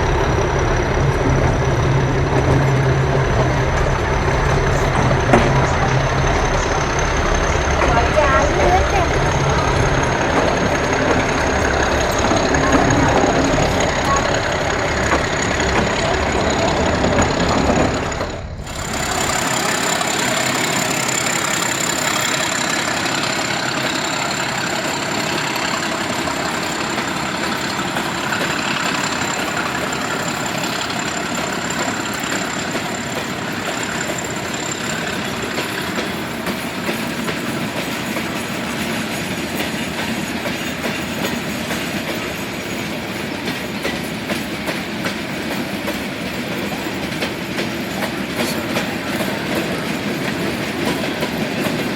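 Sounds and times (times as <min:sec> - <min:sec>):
diesel locomotive engine running: 0:00.0 - 0:51.9
train wheels clacking over rail joints: 0:00.0 - 0:51.9.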